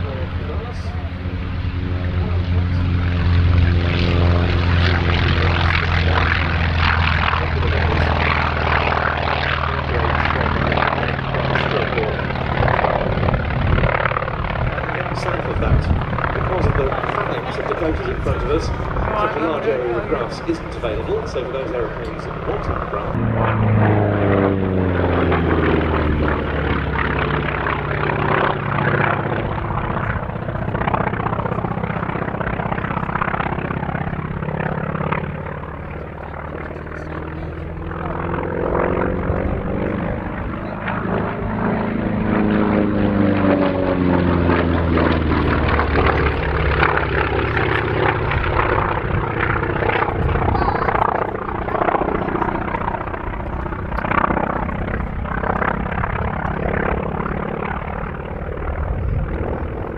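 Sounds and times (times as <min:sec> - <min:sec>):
propeller aircraft flying past: 0:00.0 - 0:59.9.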